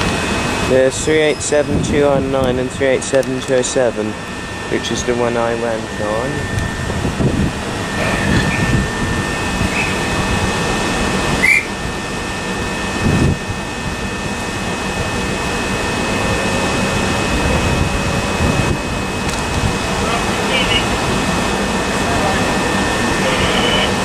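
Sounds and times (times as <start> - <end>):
train equipment humming and whining: 0.0 - 24.0.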